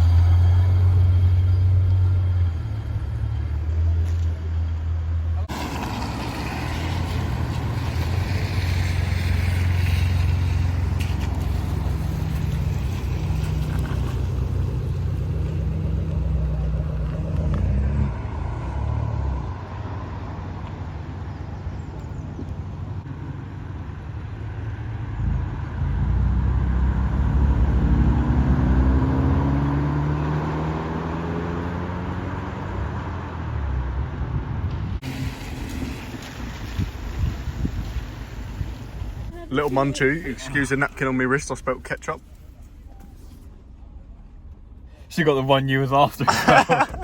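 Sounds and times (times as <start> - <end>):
car engine humming: 0.0 - 47.0.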